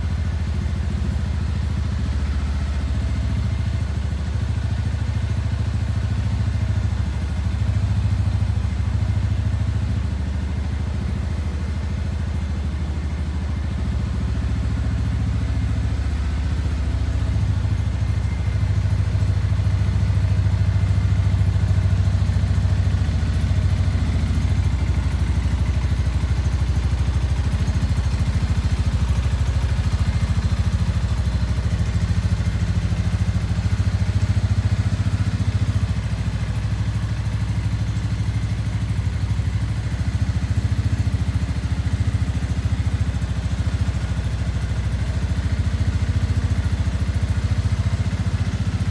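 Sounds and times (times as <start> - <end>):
motorcycle engine running at low revs: 0.0 - 48.9.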